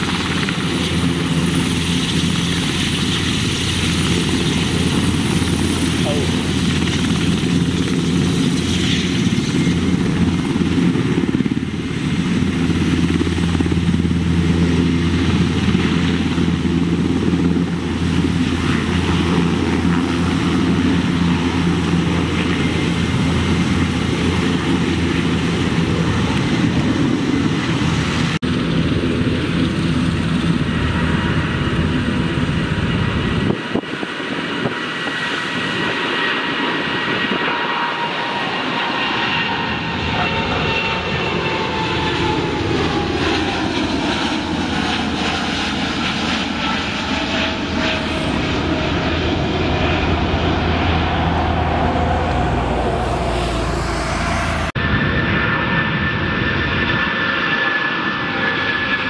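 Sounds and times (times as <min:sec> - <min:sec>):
helicopter rotor drone: 0:00.0 - 0:59.0
jet airliner engines whining: 0:00.0 - 0:59.0.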